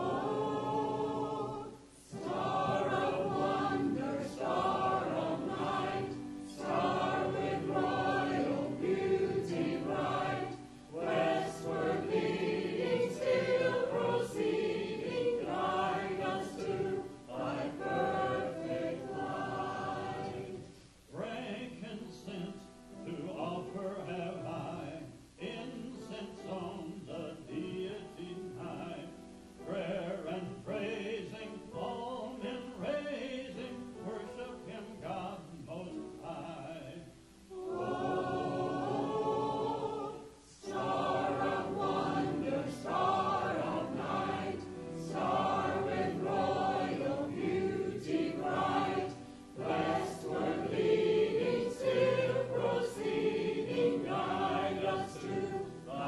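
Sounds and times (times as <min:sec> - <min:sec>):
church choir singing a hymn: 0:00.0 - 0:56.0.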